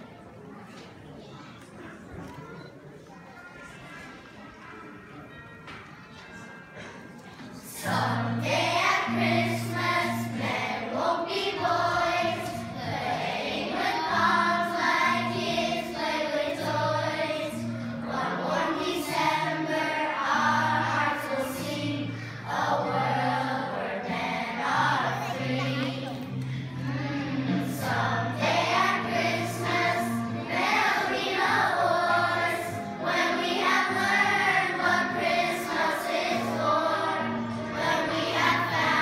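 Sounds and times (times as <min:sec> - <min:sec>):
children's choir singing: 0:01.9 - 0:39.0
low held accompaniment notes: 0:04.3 - 0:39.0.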